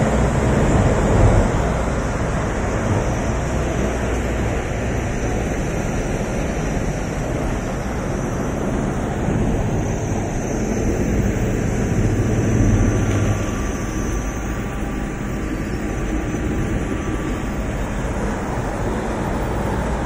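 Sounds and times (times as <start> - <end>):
wood-grinding machinery running: 0.0 - 20.0.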